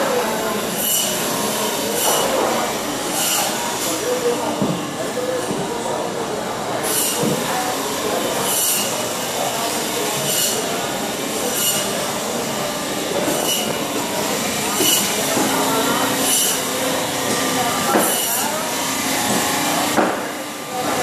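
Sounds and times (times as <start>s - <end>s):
indoor crowd hubbub: 0.0s - 21.0s.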